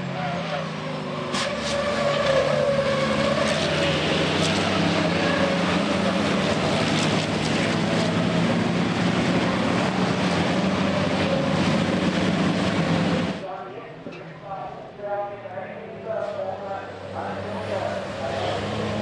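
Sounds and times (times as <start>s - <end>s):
diesel truck engines racing: 0.0s - 19.0s.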